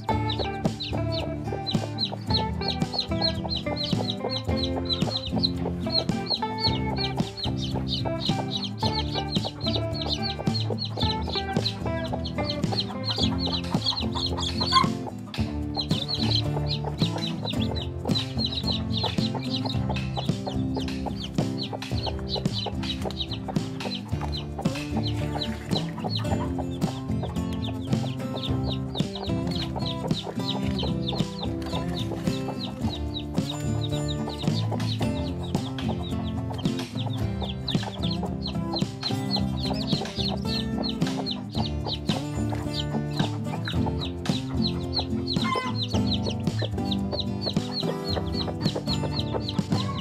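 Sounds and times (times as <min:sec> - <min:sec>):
background music: 0:00.0 - 0:50.0
chicks peeping: 0:00.0 - 0:50.0
hen clucking: 0:00.0 - 0:50.0.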